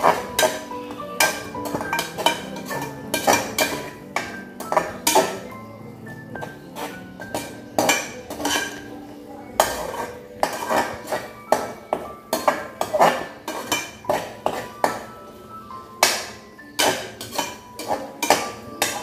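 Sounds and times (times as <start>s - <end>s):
spoon scraping and knocking pot: 0.0s - 5.5s, 6.3s - 9.0s, 9.6s - 15.2s, 16.0s - 19.0s.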